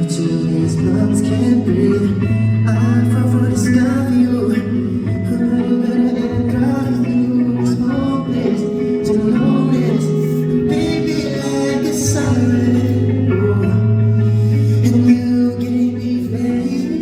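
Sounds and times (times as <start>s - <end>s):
guitar music: 0.0s - 17.0s
person singing: 0.0s - 17.0s.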